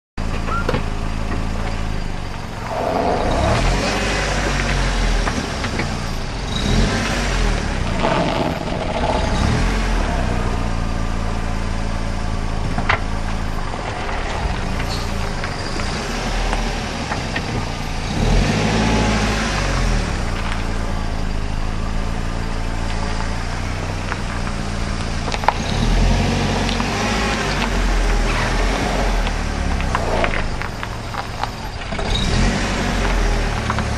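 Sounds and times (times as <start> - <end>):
car engine: 0.2 - 33.9.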